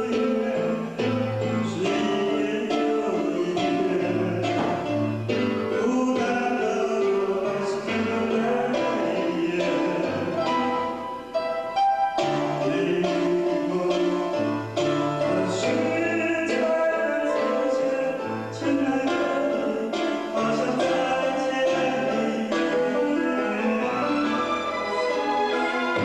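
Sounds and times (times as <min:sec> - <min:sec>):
person singing: 0:00.0 - 0:11.4, 0:12.1 - 0:26.0.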